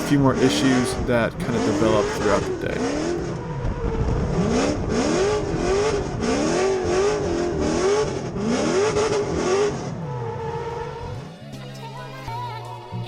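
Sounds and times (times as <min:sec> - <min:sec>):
car engine revving hard: 0:00.0 - 0:11.6.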